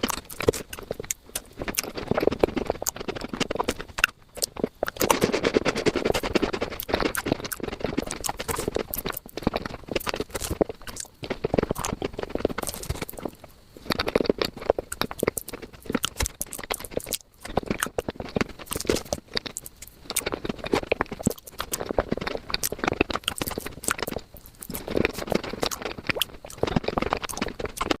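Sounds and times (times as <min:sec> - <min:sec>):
sped-up chewing and smacking: 0:00.0 - 0:28.0.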